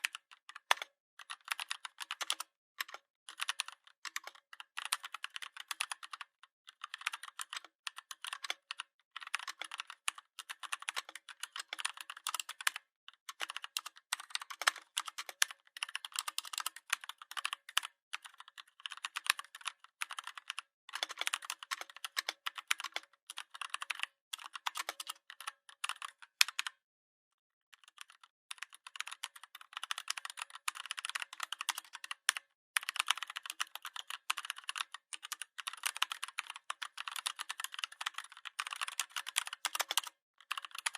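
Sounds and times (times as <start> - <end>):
typing on a keyboard: 0.0 - 26.8, 27.8 - 40.9.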